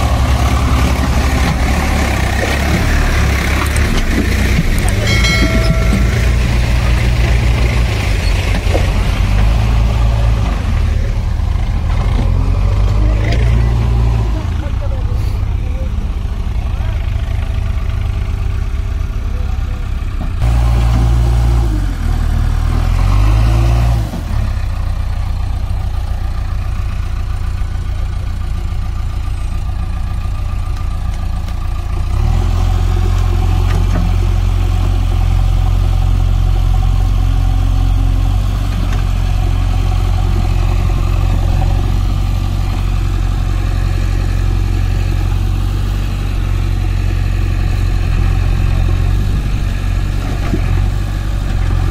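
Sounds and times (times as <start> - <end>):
diesel engine running and revving: 0.0 - 51.9.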